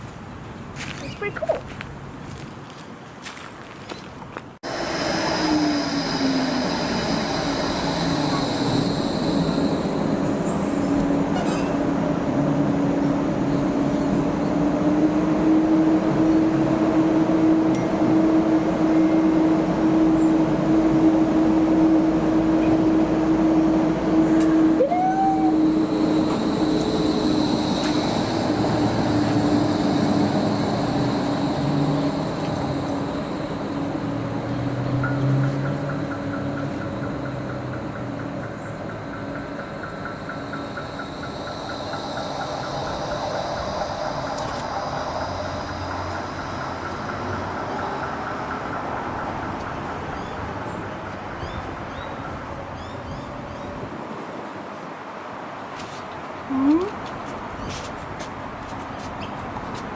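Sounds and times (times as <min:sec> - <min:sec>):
tram electric hum: 0:00.0 - 0:59.9
tram rumble: 0:00.0 - 0:59.9.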